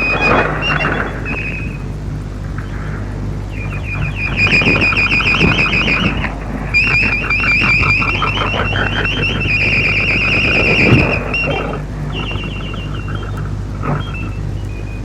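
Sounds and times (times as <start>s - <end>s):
shortwave reception hum and noise: 0.0s - 15.0s
warbling electronic interval signal: 0.0s - 15.0s.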